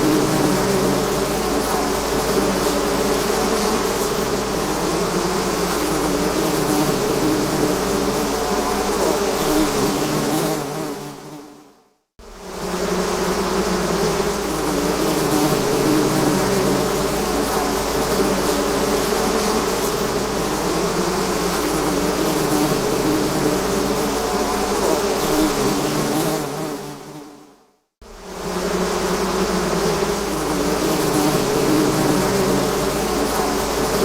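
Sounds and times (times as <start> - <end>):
bee swarm buzzing: 0.0 - 34.0.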